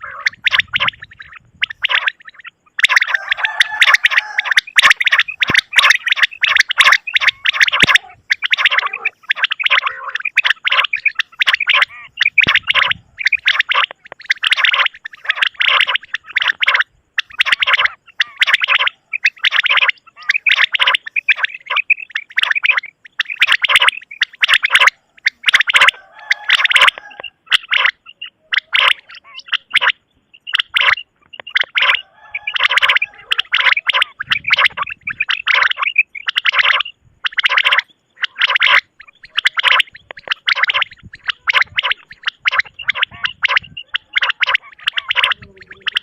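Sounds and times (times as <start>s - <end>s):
quail calling: 0.0s - 46.0s.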